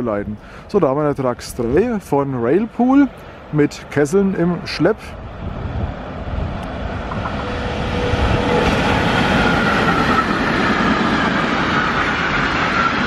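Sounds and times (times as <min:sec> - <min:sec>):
freight train rolling past: 0:01.1 - 0:13.0.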